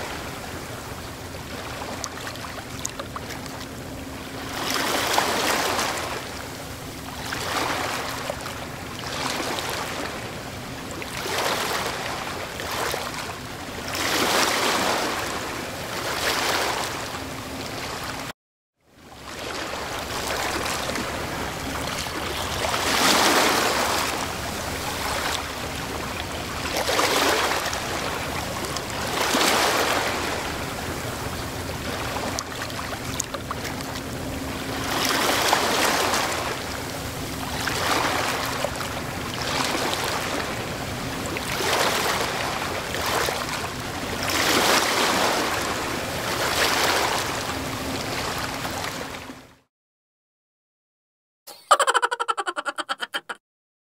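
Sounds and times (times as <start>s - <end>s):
waves washing onto shore: 0.0s - 18.3s, 19.1s - 49.3s.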